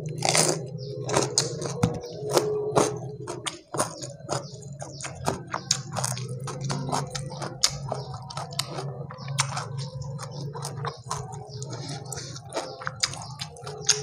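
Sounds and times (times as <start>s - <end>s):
chewing with wet mouth smacks: 0.0s - 14.0s
fingers tearing at chicken: 0.0s - 14.0s.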